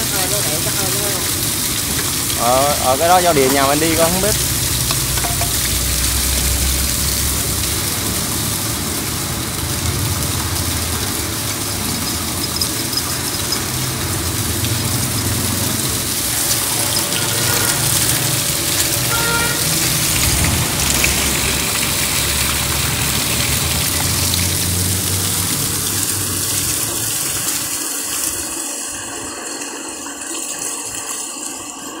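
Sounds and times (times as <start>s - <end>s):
water splashing onto ground: 0.0s - 31.8s
water gushing from a pipe: 0.0s - 32.0s.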